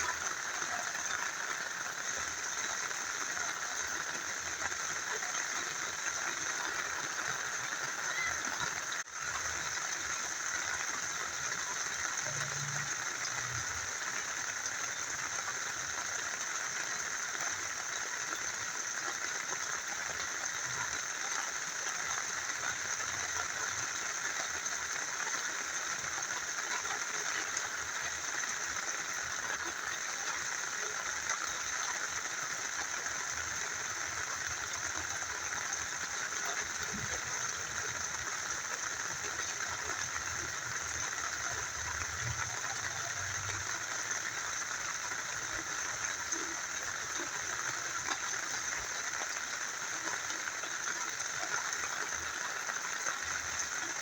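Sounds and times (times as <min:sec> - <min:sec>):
rain falling: 0:00.0 - 0:54.0
small river flowing: 0:00.0 - 0:54.0.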